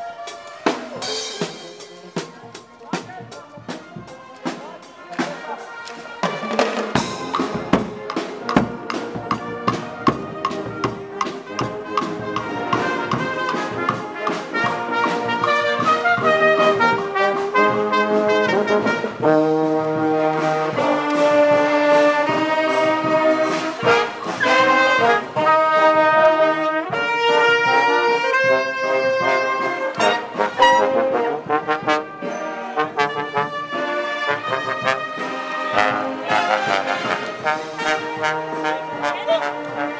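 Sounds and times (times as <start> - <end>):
brass band playing: 0.0 - 39.9
drums: 0.0 - 39.9.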